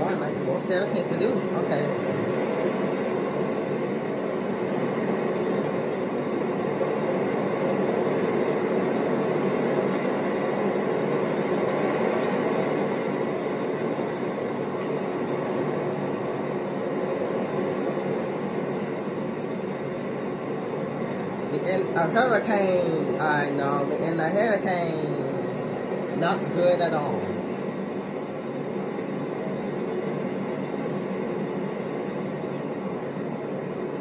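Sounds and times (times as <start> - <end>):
steady rushing noise: 0.0 - 34.0.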